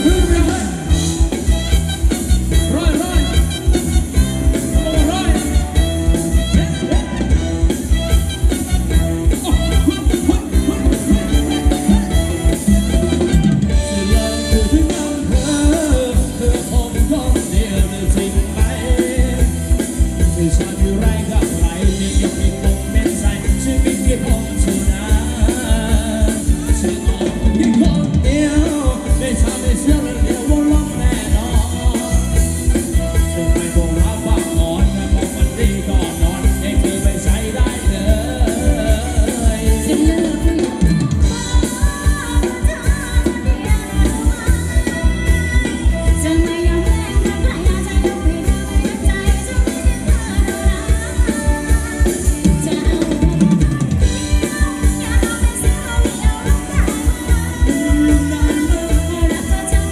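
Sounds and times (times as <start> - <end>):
fast drum kit beat: 0.0 - 59.9
live band playing dance music: 0.0 - 59.9.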